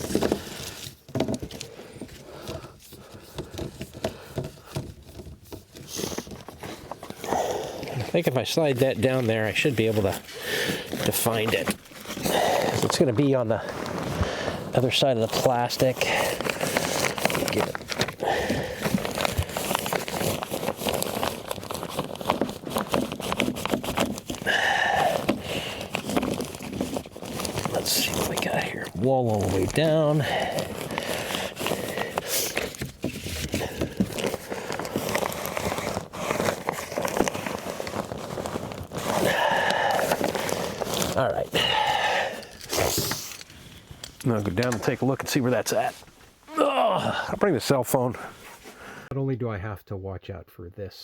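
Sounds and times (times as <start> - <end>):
hands tapping scraping and rustling: 0.0 - 46.5.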